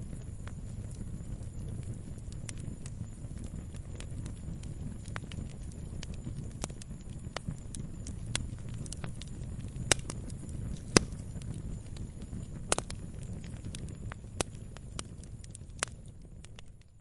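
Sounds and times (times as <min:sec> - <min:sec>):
fire crackles and pops: 0:00.0 - 0:17.0
low rumble of flames: 0:00.0 - 0:17.0.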